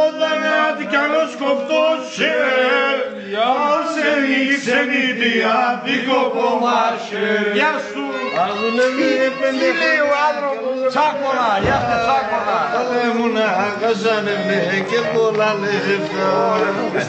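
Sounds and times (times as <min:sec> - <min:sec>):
men singing together: 0:00.0 - 0:17.0.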